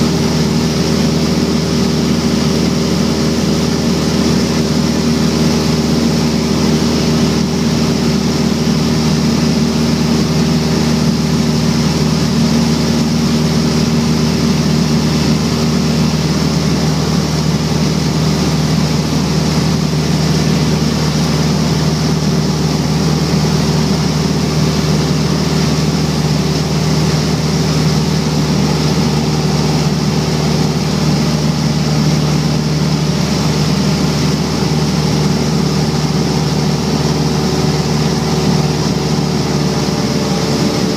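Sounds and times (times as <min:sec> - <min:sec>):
propeller aircraft engine droning: 0:00.0 - 0:40.9.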